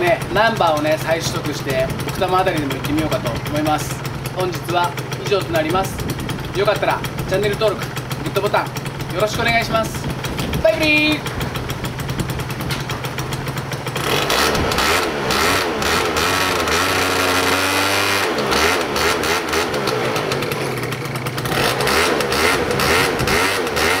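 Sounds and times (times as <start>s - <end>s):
scooter engine idling and revving: 0.0s - 24.0s.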